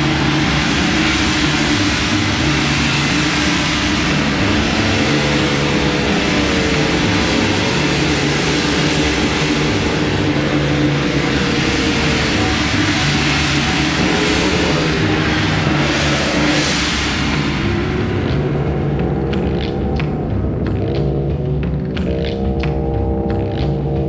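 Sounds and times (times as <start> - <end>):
ambient drone music: 0.0 - 24.0.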